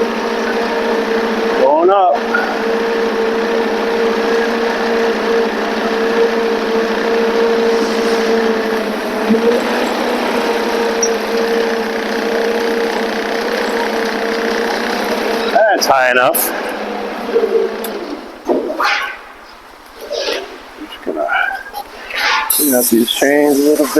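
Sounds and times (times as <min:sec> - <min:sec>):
forklift hydraulic whine: 0:00.0 - 0:23.9.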